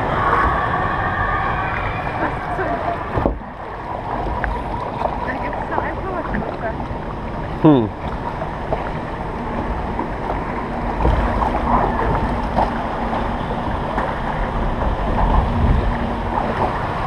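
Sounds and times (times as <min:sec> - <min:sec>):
water rushing and lapping: 0:00.0 - 0:17.0
wind buffeting microphone: 0:00.0 - 0:17.0.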